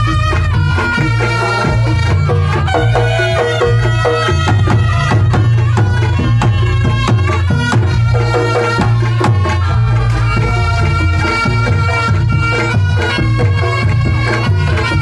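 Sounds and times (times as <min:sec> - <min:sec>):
kendang drum beating fast: 0:00.0 - 0:15.0
reedy slompret melody: 0:00.0 - 0:15.0.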